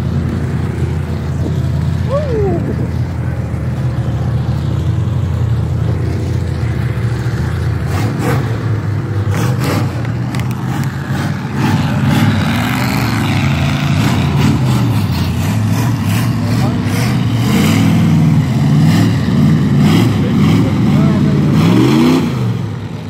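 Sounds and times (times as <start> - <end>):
pickup truck engine revving: 0.0 - 23.0.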